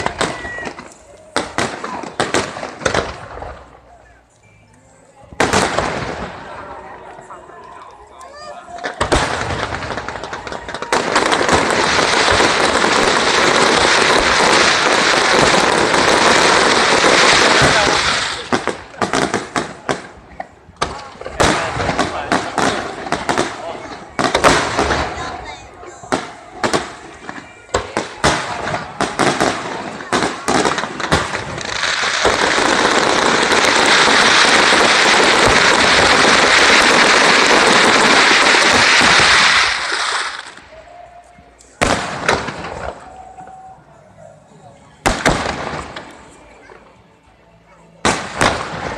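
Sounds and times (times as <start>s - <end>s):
fireworks bursting: 0.0s - 3.9s, 5.4s - 7.3s, 8.7s - 43.7s, 45.0s - 46.6s, 48.0s - 48.9s.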